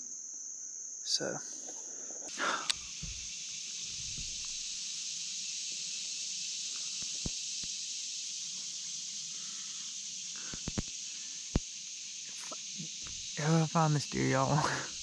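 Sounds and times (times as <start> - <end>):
crickets and insects chirping: 0.0 - 15.0.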